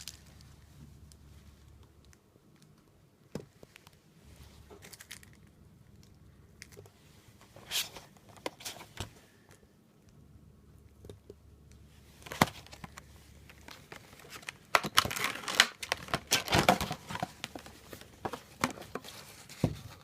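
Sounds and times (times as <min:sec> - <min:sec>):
objects being handled: 0:00.0 - 0:09.6, 0:11.0 - 0:20.0.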